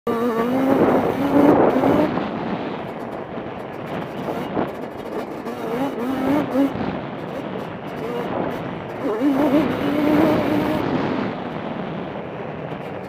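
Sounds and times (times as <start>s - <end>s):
quad two-stroke engine revving: 0.1s - 3.2s, 3.8s - 12.1s.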